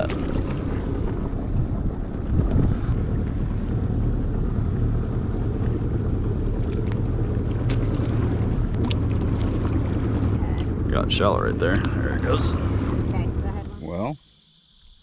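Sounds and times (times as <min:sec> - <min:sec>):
wind buffeting microphone: 0:00.0 - 0:13.6
outboard motor running: 0:00.0 - 0:14.2.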